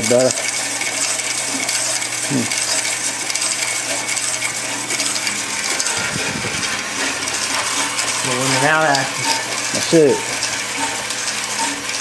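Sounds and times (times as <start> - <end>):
electric drill running: 0.0 - 12.0
hone stones scraping metal: 0.0 - 12.0.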